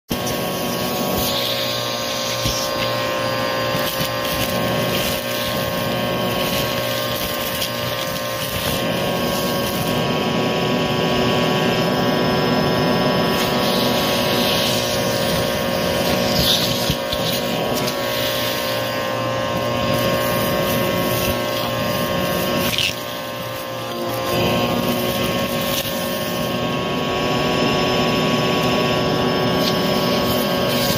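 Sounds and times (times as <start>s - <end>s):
vacuum cleaner motor whine: 0.1s - 30.9s.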